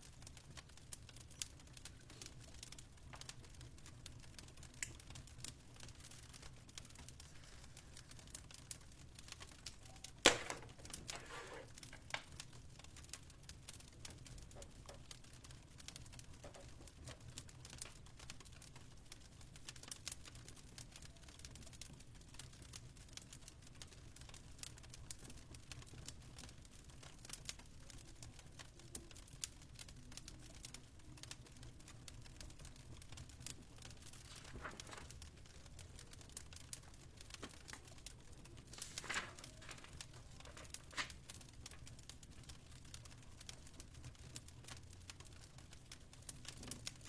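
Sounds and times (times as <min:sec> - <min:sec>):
fireplace crackling: 0:00.0 - 0:47.0.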